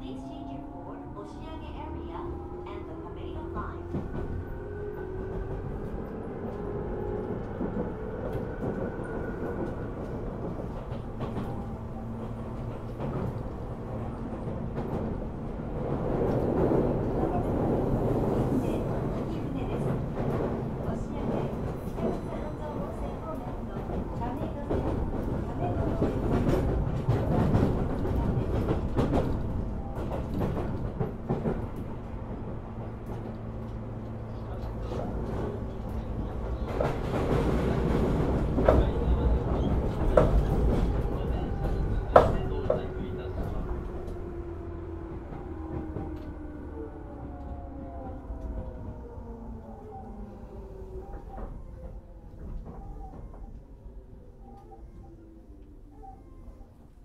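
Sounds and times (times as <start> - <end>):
train wheels rumbling on rails: 0.0 - 55.4.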